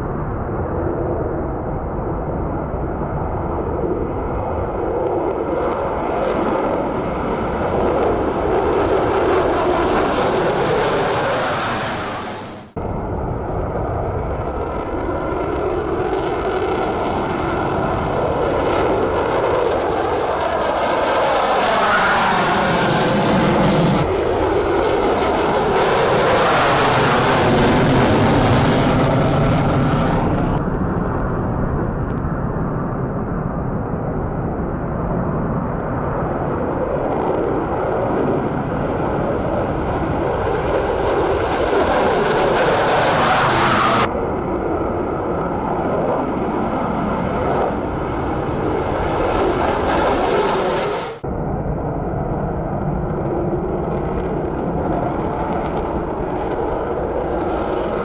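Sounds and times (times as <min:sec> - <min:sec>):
fighter jets taking off: 0:00.0 - 0:58.0.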